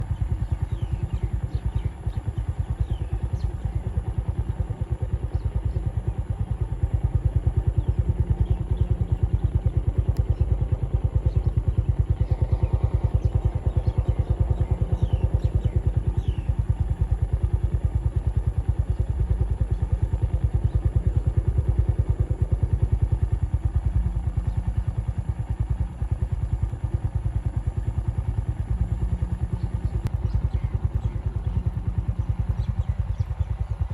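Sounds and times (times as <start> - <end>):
motor running with low pulse: 0.0 - 33.9.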